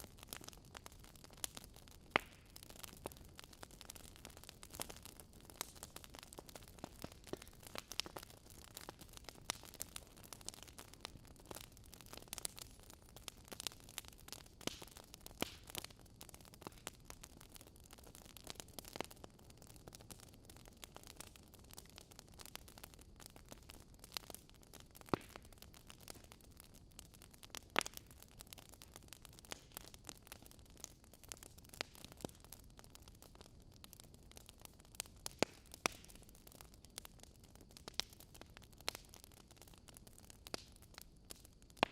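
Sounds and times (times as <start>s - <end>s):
faint steady hiss: 0.0s - 41.9s
fire crackling and popping: 0.0s - 41.9s.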